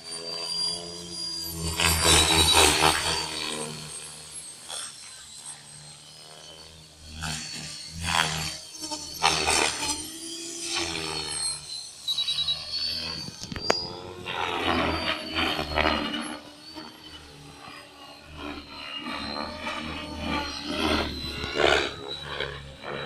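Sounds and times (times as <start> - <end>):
rc helicopter rotor whooshing: 0.0 - 23.0.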